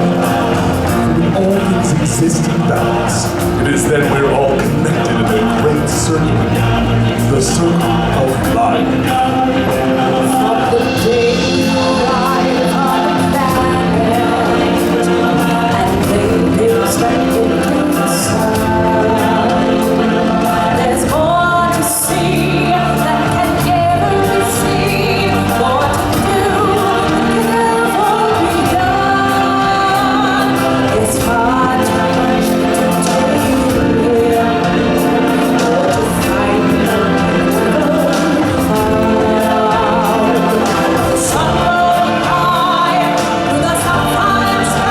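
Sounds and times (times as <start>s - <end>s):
choir singing with band: 0.0s - 44.9s.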